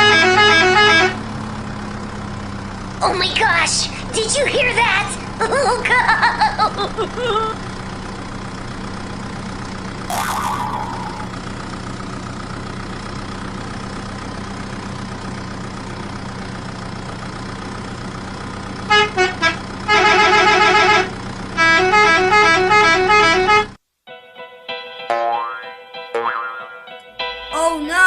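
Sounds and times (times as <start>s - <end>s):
vehicle engine hum: 0.0s - 23.8s.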